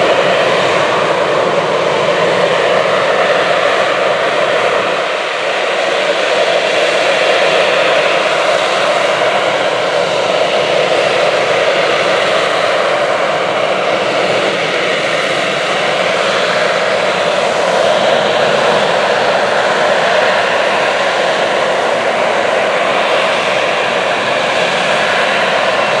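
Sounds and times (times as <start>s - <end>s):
jet engine roaring: 0.0s - 26.0s.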